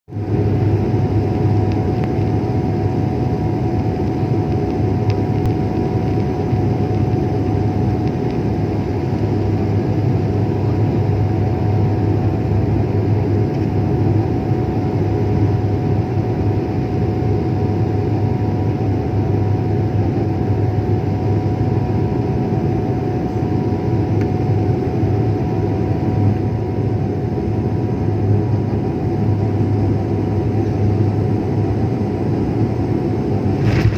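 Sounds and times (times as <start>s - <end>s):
aircraft engines droning: 0.1s - 33.9s.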